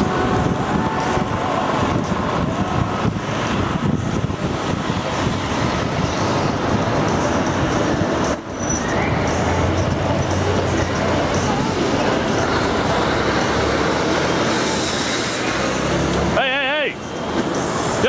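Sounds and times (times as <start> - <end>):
loud city street traffic: 0.0 - 18.0.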